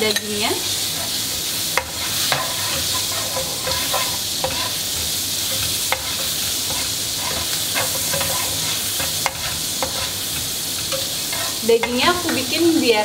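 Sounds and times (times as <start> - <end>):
meat sizzling in a frying pan: 0.0 - 13.0
spatula scraping a pan: 0.6 - 12.6.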